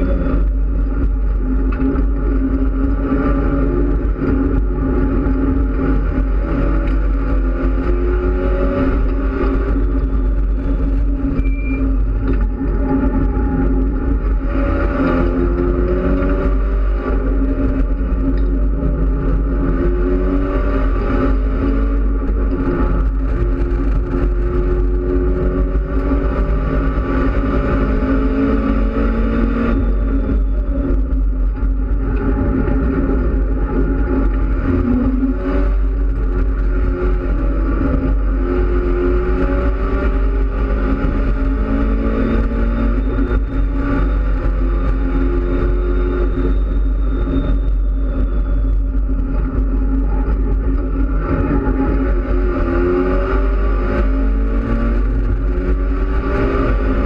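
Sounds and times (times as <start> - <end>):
car engine accelerating hard: 0.0 - 57.0
deep road and cabin rumble: 0.0 - 57.0.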